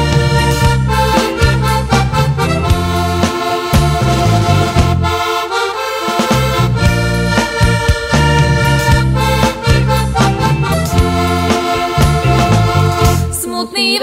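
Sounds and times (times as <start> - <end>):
button accordion folk music: 0.0 - 13.4.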